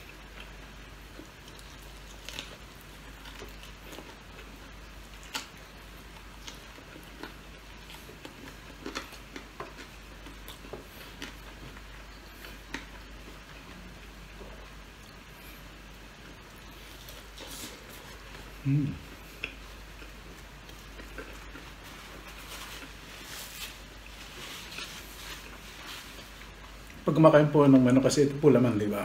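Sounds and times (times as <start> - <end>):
person chewing: 0.0 - 27.0.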